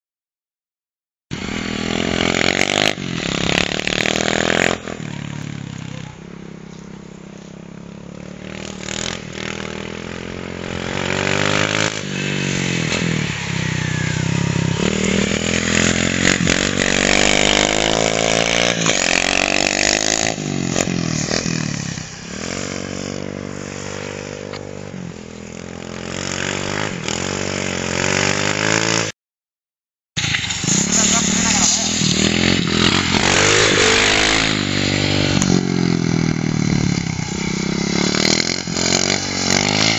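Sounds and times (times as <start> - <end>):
small motorcycle engine revving: 1.3 - 29.1, 30.2 - 39.9.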